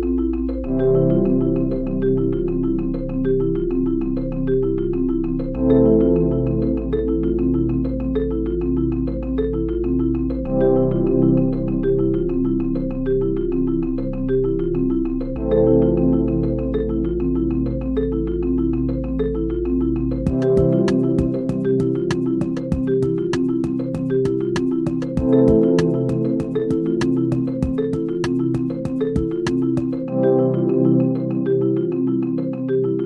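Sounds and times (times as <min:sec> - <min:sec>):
marimba-like mallet notes: 0:00.0 - 0:33.0.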